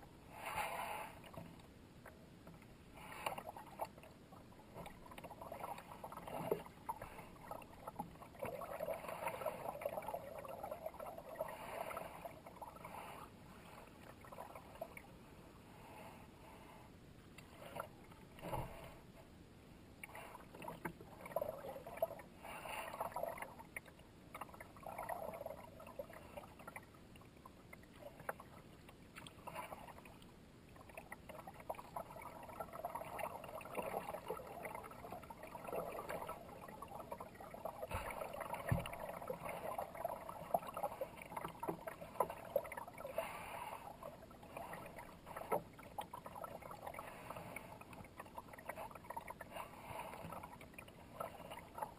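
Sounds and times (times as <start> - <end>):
water running along hull: 0.0 - 51.9.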